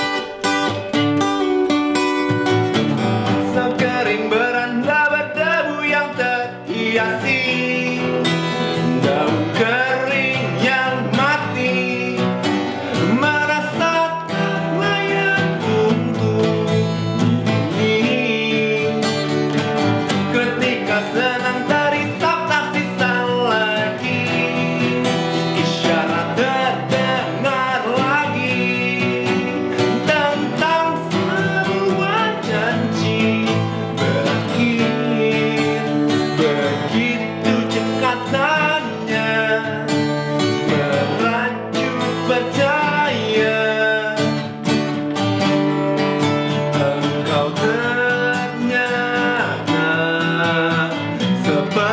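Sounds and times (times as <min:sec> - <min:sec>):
acoustic guitars playing: 0:00.0 - 0:51.9
man singing: 0:02.0 - 0:51.9.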